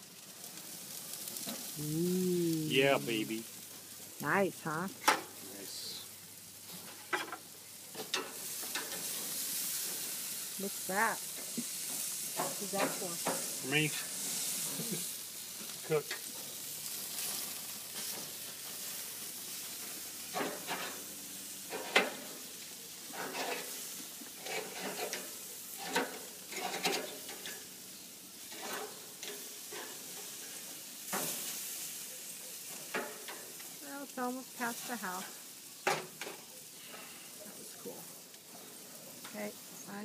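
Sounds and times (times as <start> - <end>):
meat sizzling on grill: 0.0 - 40.0.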